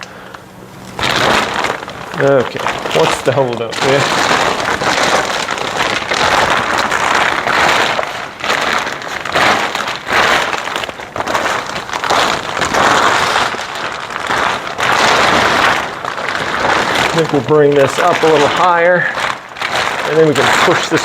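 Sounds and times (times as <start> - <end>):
plastic cover crinkling and rustling: 0.0 - 21.0.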